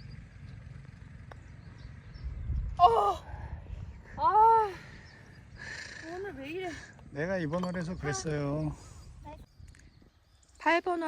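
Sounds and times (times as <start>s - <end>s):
wind rumble on microphone: 1.5s - 10.8s.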